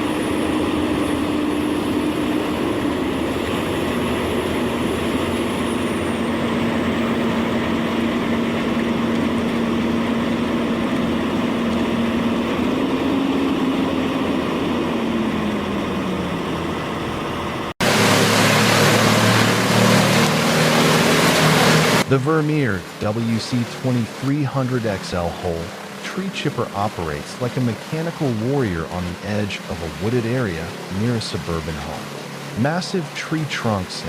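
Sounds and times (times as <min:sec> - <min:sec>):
wood chipper running: 0:00.0 - 0:32.9
heavy machinery engine running: 0:00.0 - 0:34.0.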